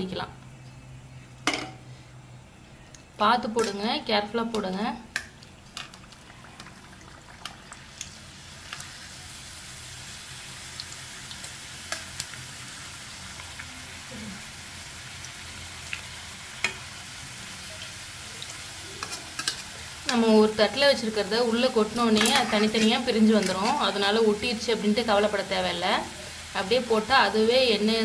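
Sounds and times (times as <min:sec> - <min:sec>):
dough frying in hot oil: 0:03.5 - 0:28.0.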